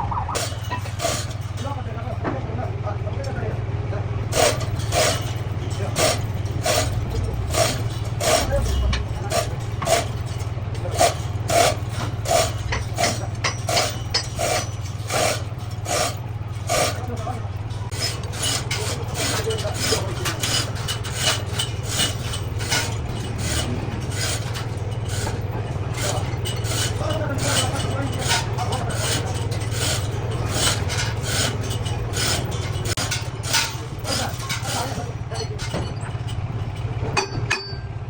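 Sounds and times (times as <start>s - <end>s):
metallic clicks and scraping: 0.0s - 1.8s, 4.3s - 37.9s
boring machine humming: 3.7s - 37.0s.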